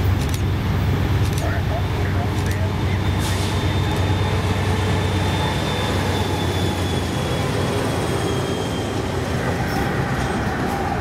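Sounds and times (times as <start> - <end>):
freight train wheels rumbling on rails: 0.0 - 11.0.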